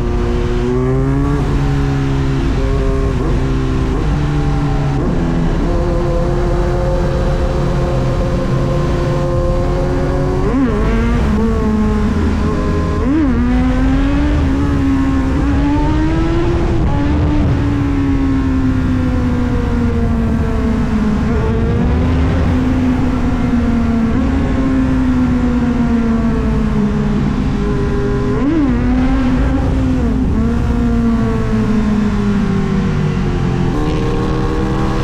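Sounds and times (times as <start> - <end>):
low wind rumble: 0.0 - 35.0
motorcycle engine riding along: 0.0 - 35.0.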